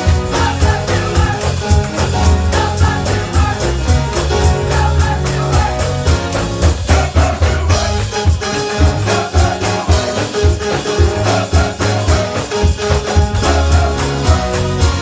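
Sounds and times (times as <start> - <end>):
drum hits: 0.0 - 15.0
gospel church band: 0.0 - 15.0
rhythmic bass line: 0.0 - 15.0
tambourine: 0.0 - 15.0.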